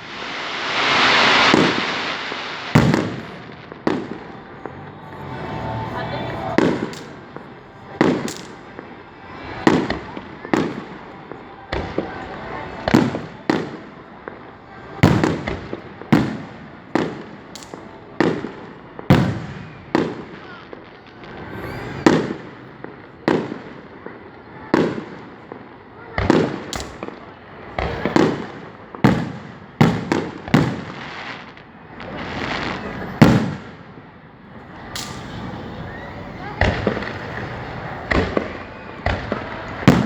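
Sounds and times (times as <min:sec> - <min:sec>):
fireworks bangs echoing: 0:00.0 - 0:40.0.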